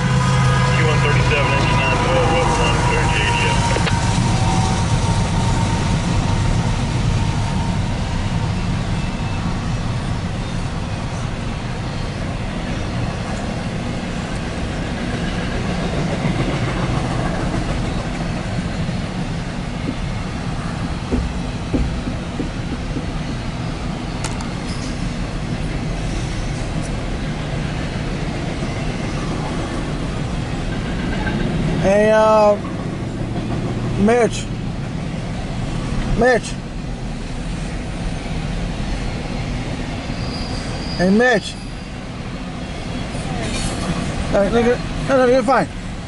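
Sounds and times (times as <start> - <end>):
freight train wheels rumbling on rails: 0.0 - 46.0.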